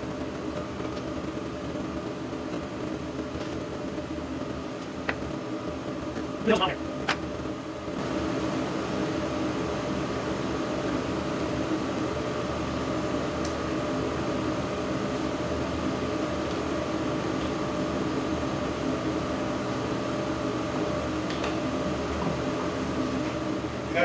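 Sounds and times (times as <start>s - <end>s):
fan motor humming: 0.0s - 24.0s.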